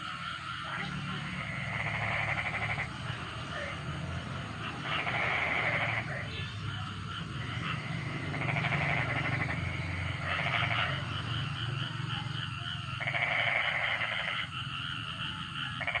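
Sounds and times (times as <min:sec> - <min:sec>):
frog-like animal calls: 0:00.0 - 0:16.0.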